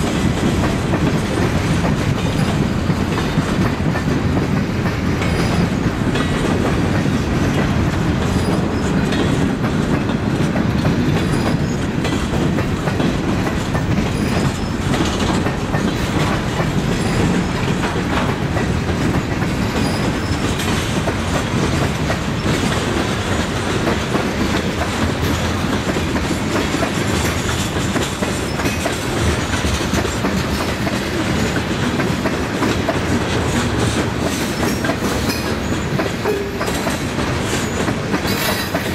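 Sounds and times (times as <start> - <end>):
train wheels rumbling on rails: 0.0 - 38.9
wheels clacking over rail joints: 0.0 - 38.9.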